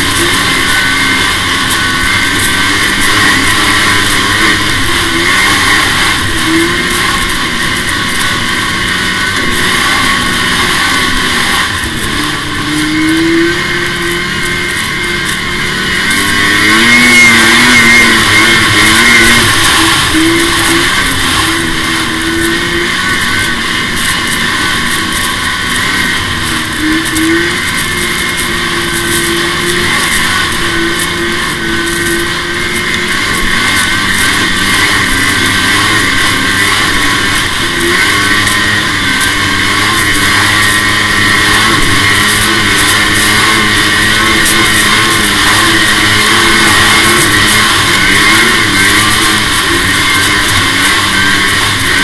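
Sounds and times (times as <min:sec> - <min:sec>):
constant rush of noise: 0:00.0 - 0:52.0
snowmobile engine running: 0:00.0 - 0:52.0.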